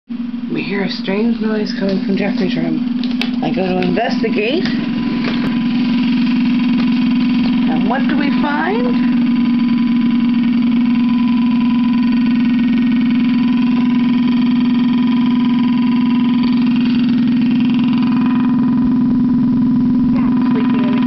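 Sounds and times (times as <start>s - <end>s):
computer steady tone: 0.2s - 21.0s.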